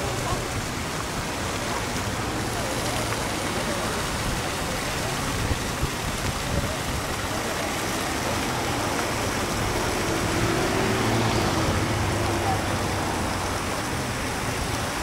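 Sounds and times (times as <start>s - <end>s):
city traffic hum: 0.0s - 15.0s
fountain water splashing: 0.0s - 15.0s.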